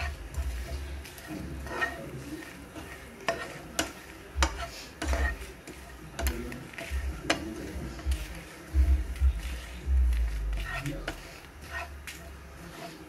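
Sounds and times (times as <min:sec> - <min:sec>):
spatula scraping frying pan: 0:00.0 - 0:13.0
spatula tapping: 0:00.0 - 0:13.0.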